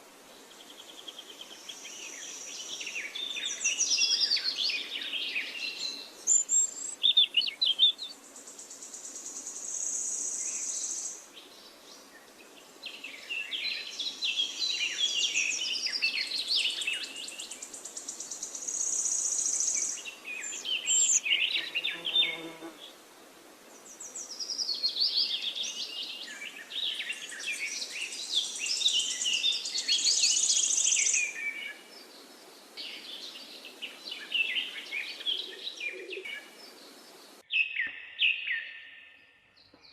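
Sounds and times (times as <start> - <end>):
birds chirping and singing: 2.0 - 8.7, 10.0 - 22.6, 23.8 - 39.9.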